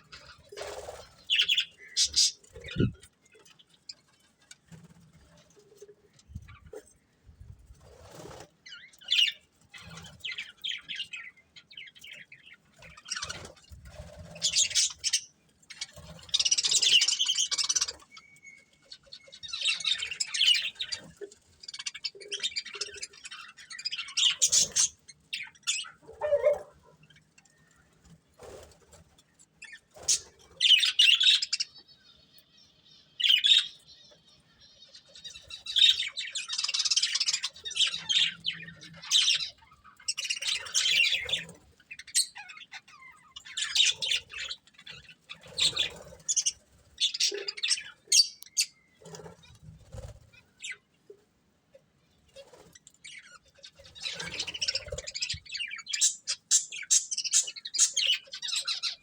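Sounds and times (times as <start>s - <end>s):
budgerigars chirping and warbling: 0.0s - 7.2s, 7.8s - 51.2s, 52.0s - 59.0s.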